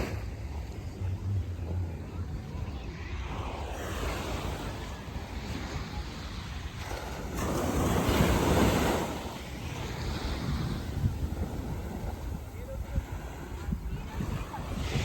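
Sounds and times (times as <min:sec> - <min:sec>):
waves breaking on sandy beach: 0:00.0 - 0:15.0
wind rumble on microphone: 0:00.0 - 0:15.0.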